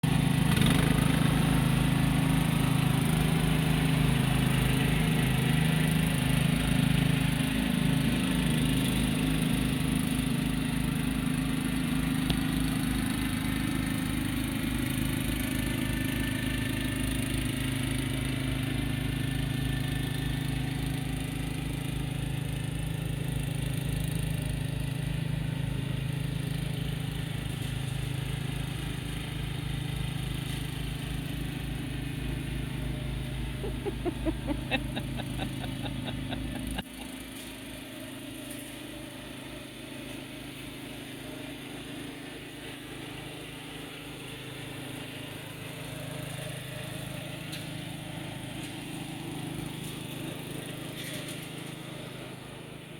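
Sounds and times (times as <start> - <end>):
lawn mower engine running: 0.0 - 52.9.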